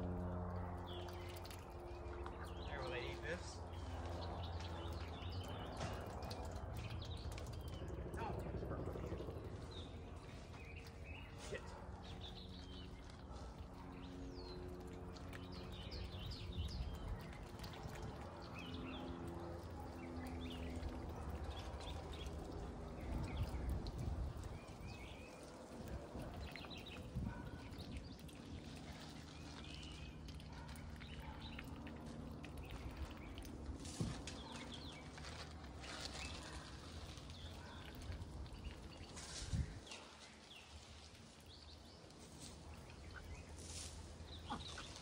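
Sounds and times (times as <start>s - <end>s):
low steady hum: 0.0s - 45.0s
small birds chirping: 0.6s - 45.0s.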